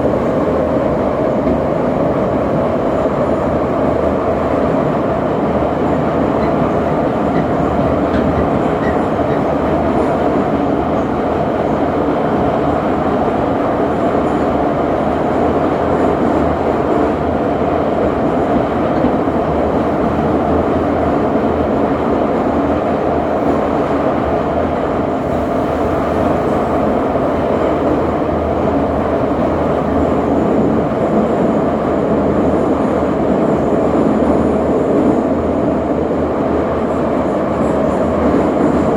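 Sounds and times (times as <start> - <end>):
metro train rumbling: 0.0 - 38.9.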